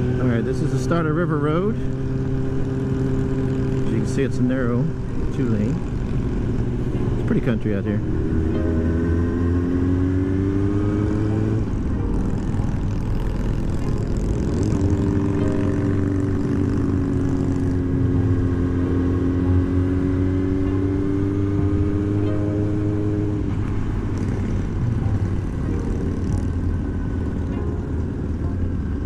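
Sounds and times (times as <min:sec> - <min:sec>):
motorcycle engine revving: 0:00.0 - 0:29.0
wind and road noise: 0:00.0 - 0:29.0.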